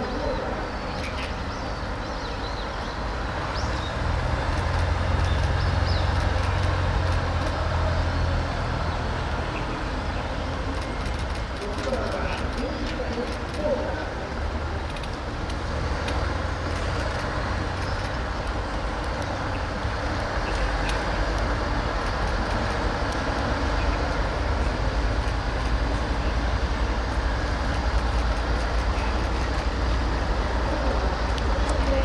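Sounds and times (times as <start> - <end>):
vehicles driving slowly past: 0.0 - 32.0.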